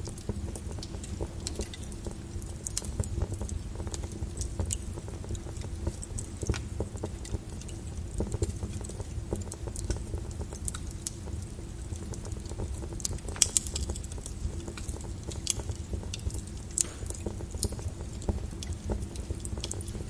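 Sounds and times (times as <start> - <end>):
rain on a window: 0.0 - 20.0
wood fire crackling: 0.0 - 20.0.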